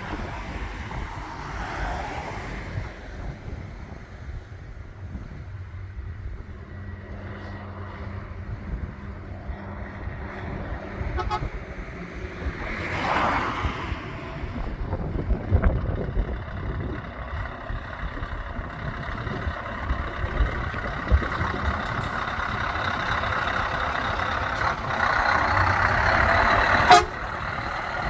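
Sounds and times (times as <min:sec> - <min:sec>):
heavy trucks driving past: 0:00.0 - 0:28.0
wind buffeting microphone: 0:00.0 - 0:28.0.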